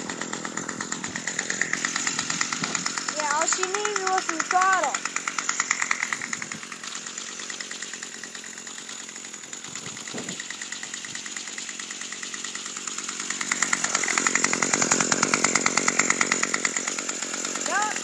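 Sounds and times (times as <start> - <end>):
weed whacker engine running: 0.0 - 18.0.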